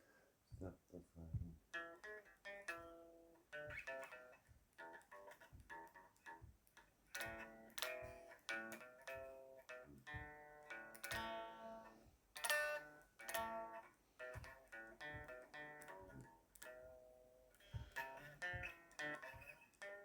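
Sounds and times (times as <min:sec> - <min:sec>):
guitar playing: 0:01.2 - 0:20.0.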